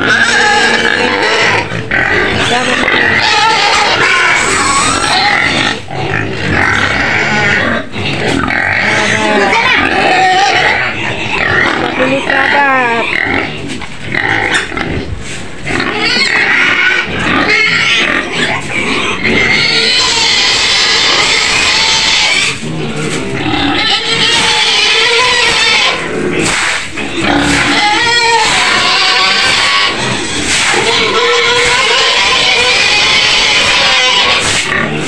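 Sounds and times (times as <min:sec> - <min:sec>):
pigs squealing: 0:00.0 - 0:35.0.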